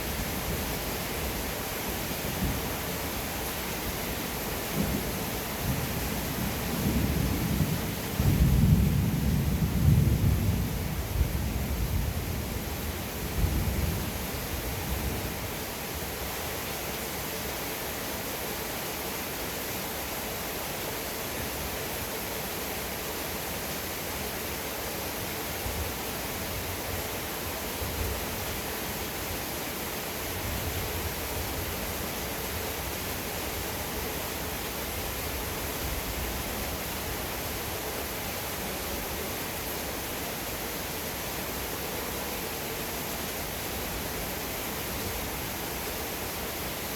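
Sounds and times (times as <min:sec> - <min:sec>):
heavy rain hissing: 0:00.0 - 0:46.9.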